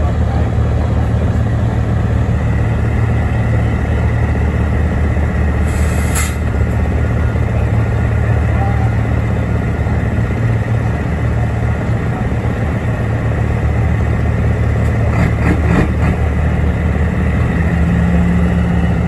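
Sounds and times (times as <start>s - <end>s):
diesel truck engines running: 0.0s - 19.0s.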